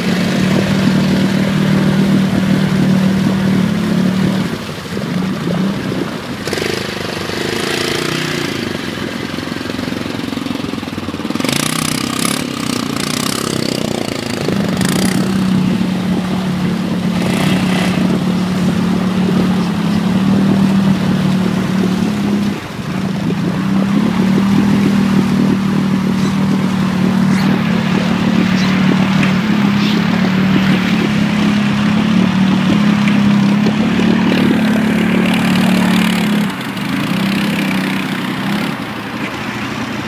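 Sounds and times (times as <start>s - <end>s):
mud and water splashing: 0.0s - 40.0s
quad engine revving: 0.0s - 40.0s.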